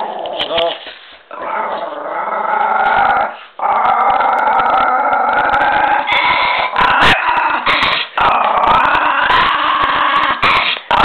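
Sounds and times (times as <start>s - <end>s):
dog growling and snarling: 0.0s - 11.0s.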